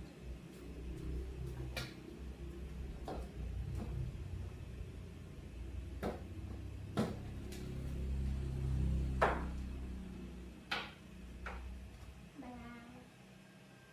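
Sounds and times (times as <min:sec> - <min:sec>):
low hum: 0:00.0 - 0:13.9.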